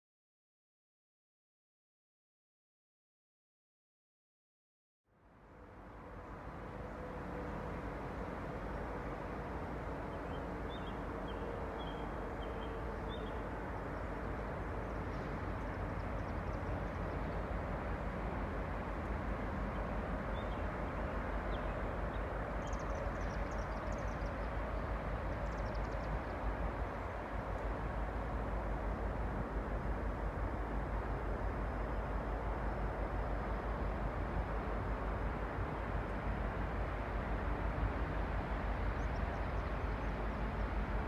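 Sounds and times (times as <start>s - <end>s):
diesel locomotive rumble: 5.5s - 41.0s.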